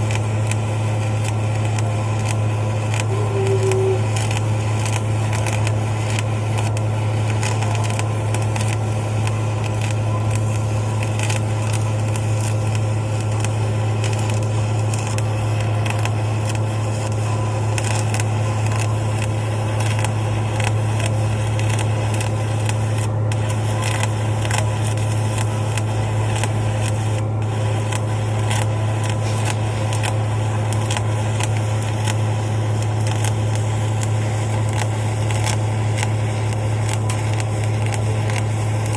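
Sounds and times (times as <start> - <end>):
steady low hum: 0.0 - 38.9
welding arc crackling: 0.0 - 38.9.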